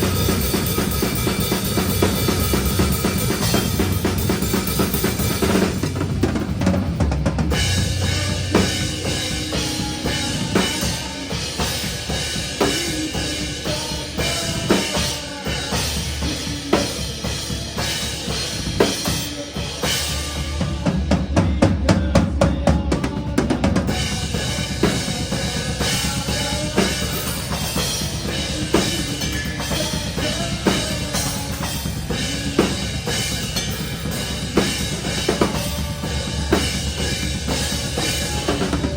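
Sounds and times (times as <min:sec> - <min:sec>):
metalcore band playing live: 0:00.0 - 0:38.9.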